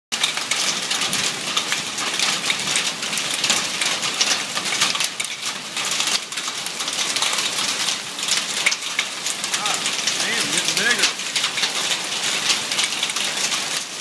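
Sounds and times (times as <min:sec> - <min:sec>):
hail and rain pelting pavement: 0:00.2 - 0:14.0.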